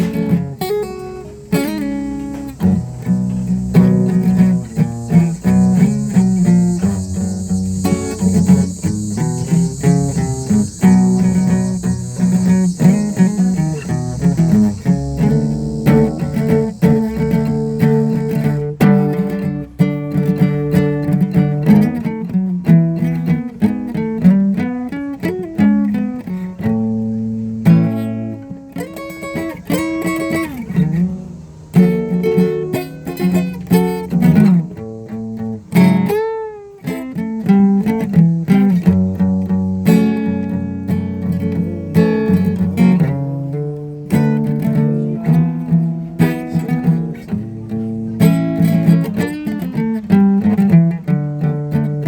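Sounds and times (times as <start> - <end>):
guitar plucked and strummed: 0.0 - 52.0.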